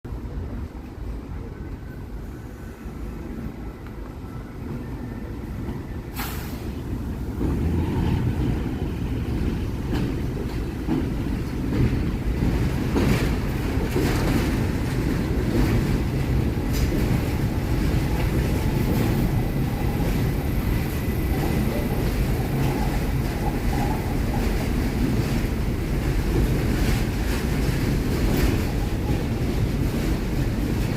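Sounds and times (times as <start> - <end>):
subway train rumble: 0.1 - 30.9.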